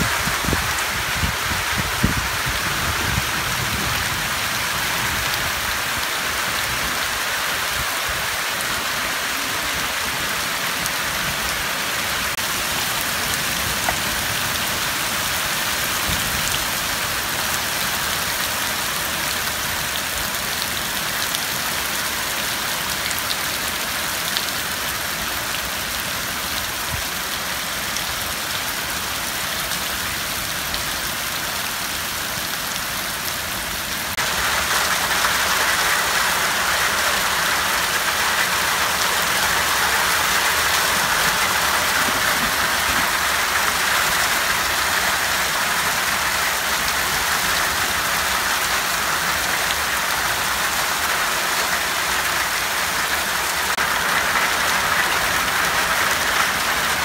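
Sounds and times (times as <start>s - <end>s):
heavy rain on plants: 0.0s - 57.0s.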